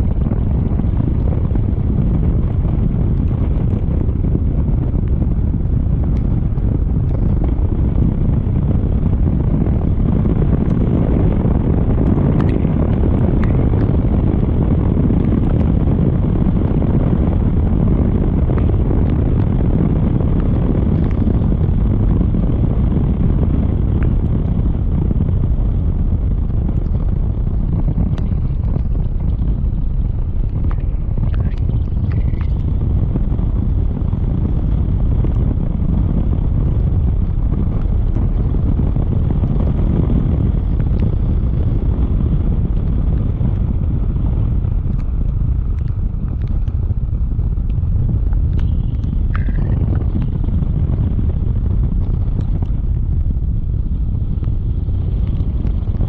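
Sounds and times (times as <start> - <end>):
scooter engine and tyre noise: 0.0 - 56.0
wind rushing on microphone: 0.0 - 56.0.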